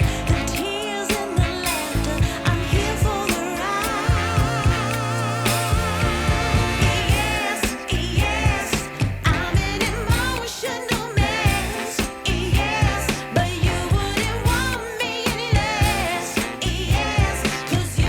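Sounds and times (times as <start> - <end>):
pop song with sung vocal: 0.0 - 18.0.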